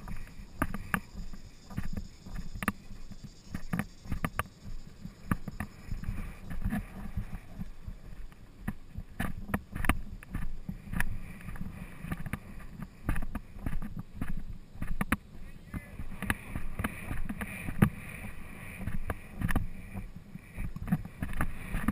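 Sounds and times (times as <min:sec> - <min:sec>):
hooves thudding on turf: 0:00.0 - 0:21.9.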